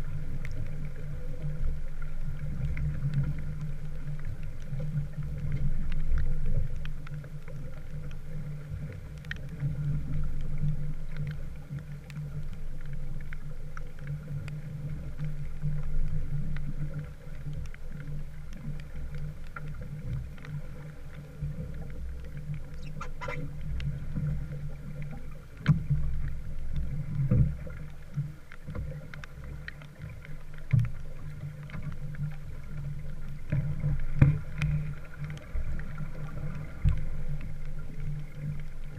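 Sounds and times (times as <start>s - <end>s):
rush of water and wind: 0.0s - 38.9s.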